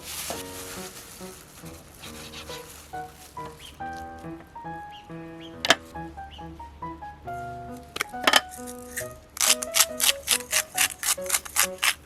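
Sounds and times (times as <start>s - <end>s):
background music: 0.3s - 12.0s.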